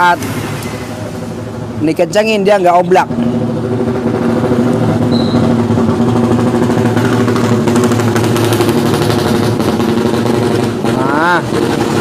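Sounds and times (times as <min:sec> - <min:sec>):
engine idling: 0:00.1 - 0:12.0.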